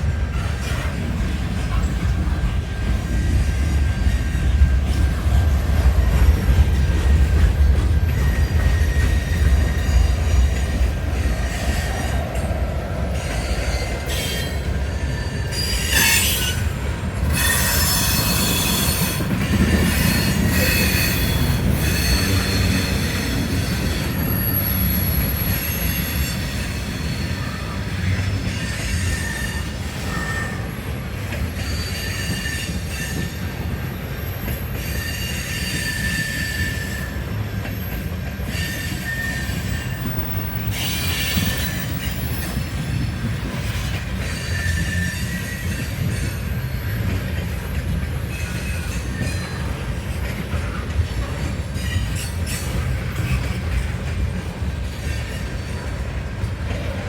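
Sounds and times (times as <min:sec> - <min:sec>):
low train rumble: 0:00.0 - 0:57.0
train wheels squealing on rails: 0:00.0 - 0:57.0.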